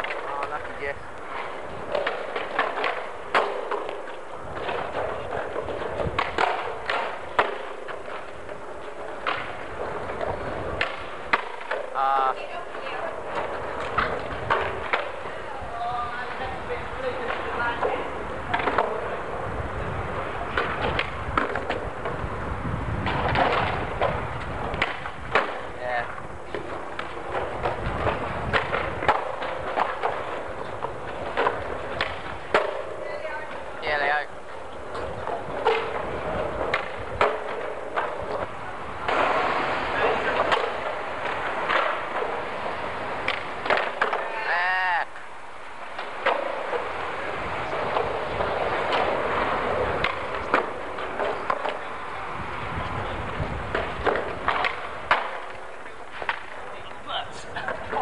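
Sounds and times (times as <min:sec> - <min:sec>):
skateboard wheels rolling: 0:00.0 - 0:58.0
skateboards clacking on concrete: 0:00.0 - 0:58.0.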